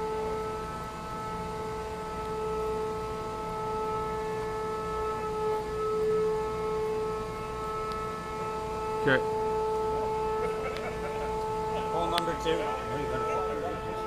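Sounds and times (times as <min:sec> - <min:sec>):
machine drone: 0:00.0 - 0:14.0.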